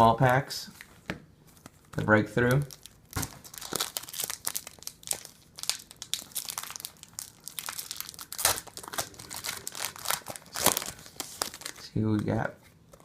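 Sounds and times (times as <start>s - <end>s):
foil wrapper crinkling: 1.5s - 12.4s.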